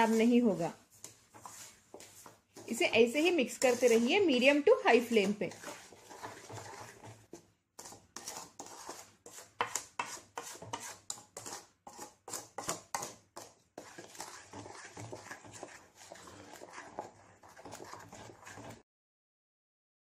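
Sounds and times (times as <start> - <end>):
wooden spatula scraping metal pan: 0.0 - 18.8.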